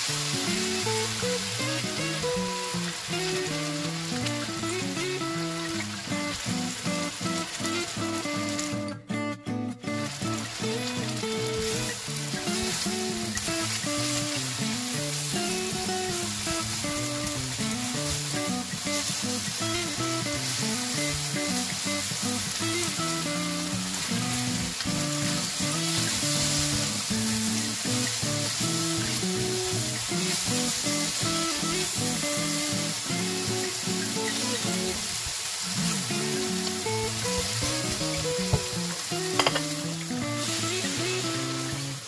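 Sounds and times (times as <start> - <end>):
background music: 0.0 - 35.0
beef sizzling in wok: 0.0 - 42.0.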